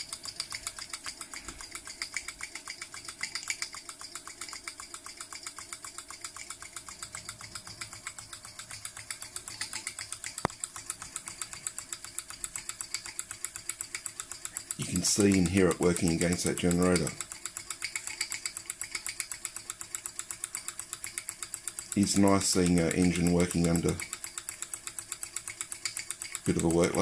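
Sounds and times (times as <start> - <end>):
toy steam engine chuffing: 0.0 - 27.0.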